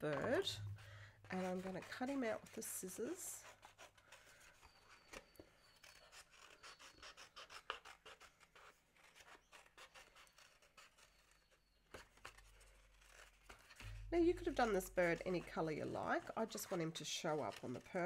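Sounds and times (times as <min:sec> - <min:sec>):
scissors snipping paper: 0:01.2 - 0:18.0.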